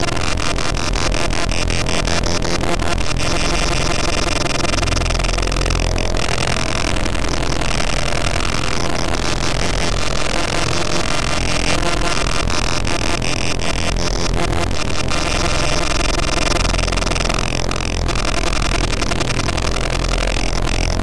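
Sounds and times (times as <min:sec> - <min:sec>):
distorted noise music: 0:00.0 - 0:21.0
rapid stuttering clicks: 0:00.0 - 0:21.0.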